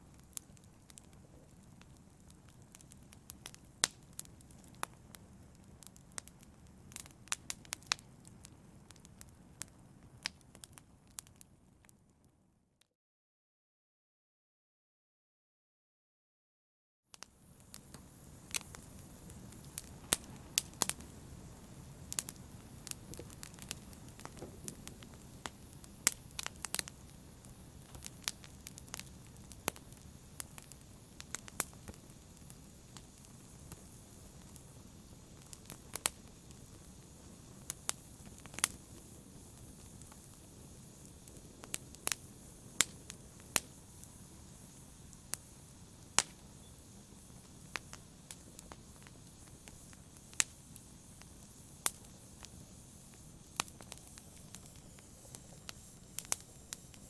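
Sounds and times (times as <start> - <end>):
fire crackling in fireplace: 0.0 - 12.4, 17.1 - 57.0.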